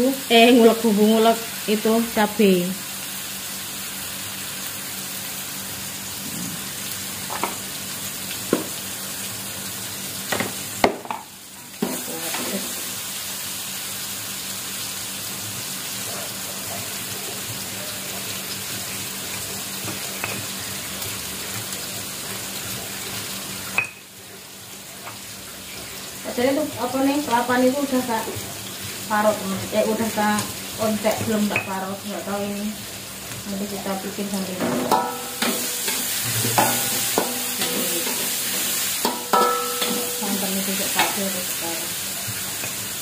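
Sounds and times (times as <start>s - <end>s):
food sizzling in a wok: 0.0s - 43.0s.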